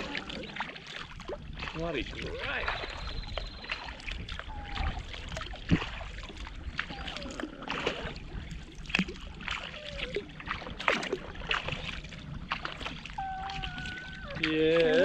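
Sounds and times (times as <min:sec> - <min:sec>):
paddle splashing in water: 0:00.0 - 0:15.0
water washing along hull: 0:00.0 - 0:15.0.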